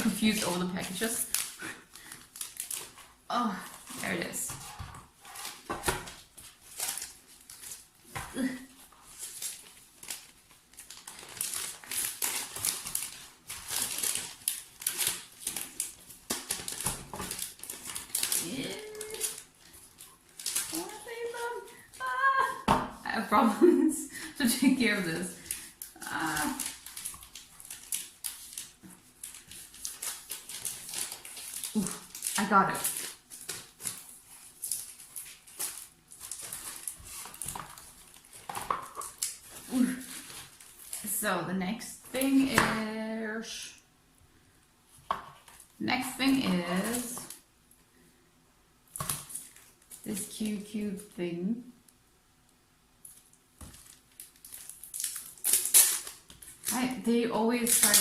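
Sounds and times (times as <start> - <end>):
plastic packaging crinkling: 0.0 - 22.6, 24.2 - 42.9, 44.9 - 47.5, 48.9 - 51.2, 53.0 - 58.0.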